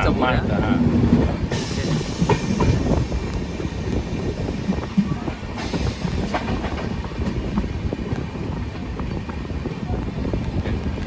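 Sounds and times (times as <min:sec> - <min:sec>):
train coach rumbling and rattling: 0:00.0 - 0:11.0.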